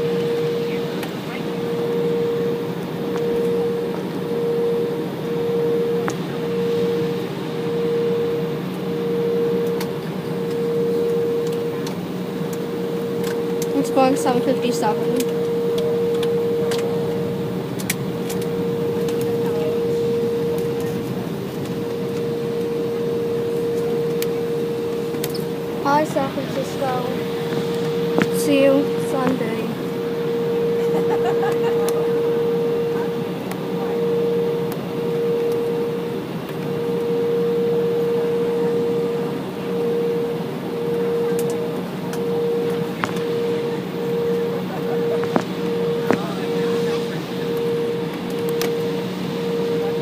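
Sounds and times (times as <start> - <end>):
jet engines and air rush: 0.0 - 50.0
mid-pitched hum: 0.0 - 50.0.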